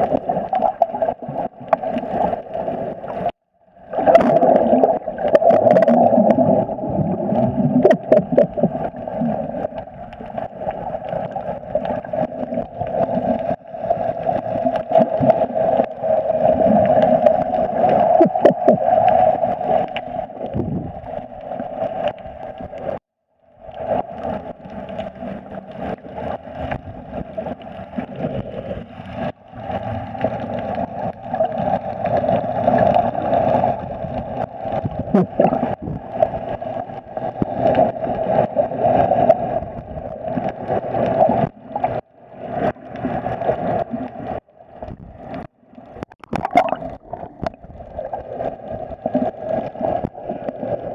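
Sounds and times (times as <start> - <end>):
muffled underwater hum: 0.0 - 50.9
water gurgling and sloshing: 0.0 - 50.9.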